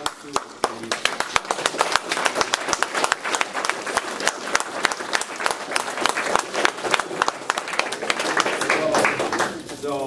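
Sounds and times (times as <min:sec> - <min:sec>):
audience clapping: 0:00.0 - 0:10.0.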